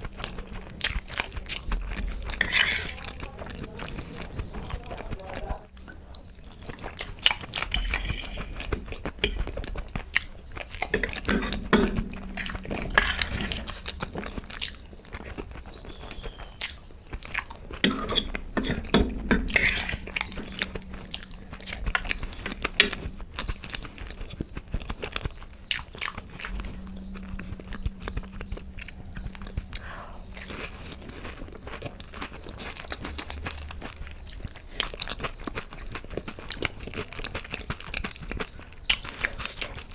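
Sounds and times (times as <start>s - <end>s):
person chewing and biting food: 5.7s - 39.9s.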